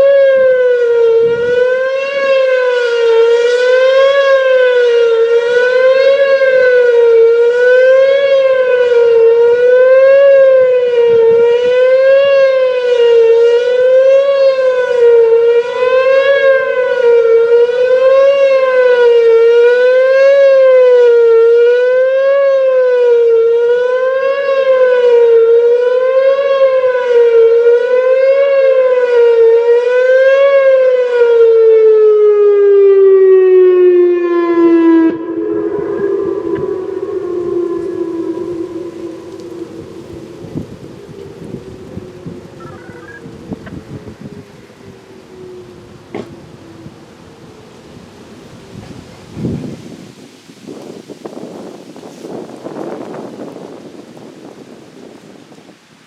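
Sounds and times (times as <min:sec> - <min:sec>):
wavering warning siren: 0:00.0 - 0:56.0.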